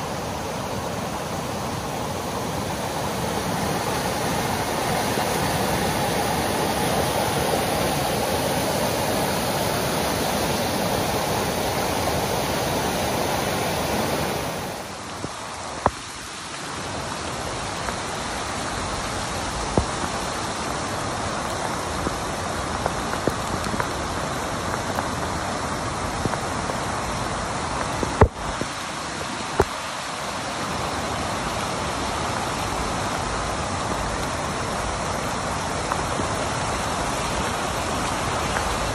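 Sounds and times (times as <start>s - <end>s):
floodwater rushing: 0.0s - 38.9s
rain: 0.0s - 38.9s.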